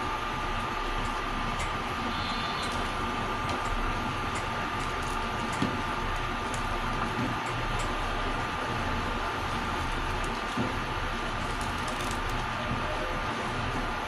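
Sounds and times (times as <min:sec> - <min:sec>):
faint constant whine: 0:00.0 - 0:14.0
lentils boiling in a pot: 0:00.3 - 0:14.0.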